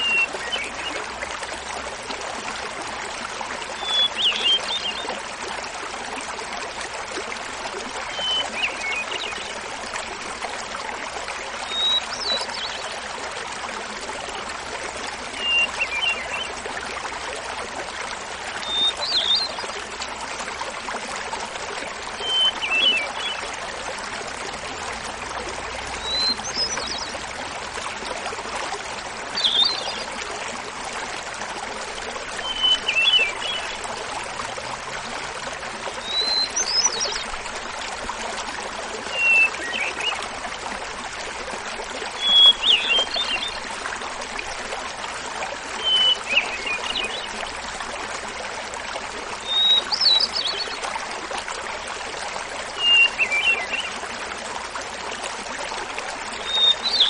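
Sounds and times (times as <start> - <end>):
small waterfall rushing: 0.0 - 57.0.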